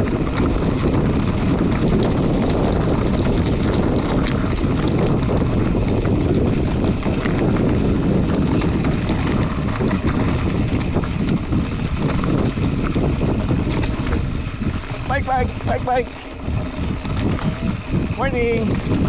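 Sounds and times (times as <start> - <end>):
bike tyre noise on dirt: 0.0 - 19.0
wind rush on microphone: 0.0 - 19.0.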